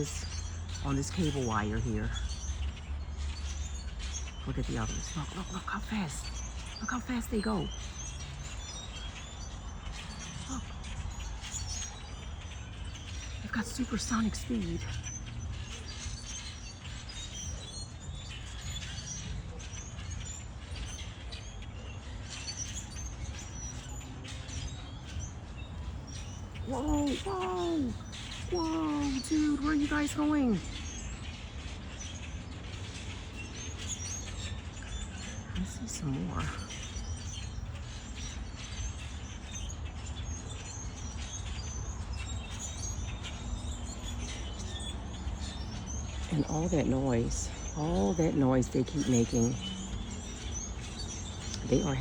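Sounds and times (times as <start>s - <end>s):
flock of birds chirping: 0.0s - 52.0s.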